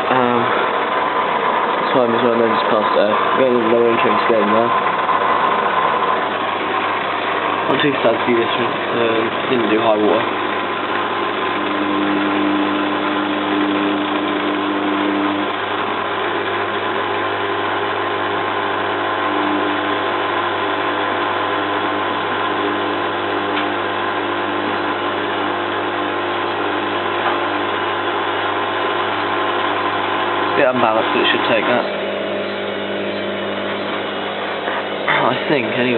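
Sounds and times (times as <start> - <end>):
steady tones in hum: 0.0 - 35.9
washing machine drum turning: 0.0 - 35.9.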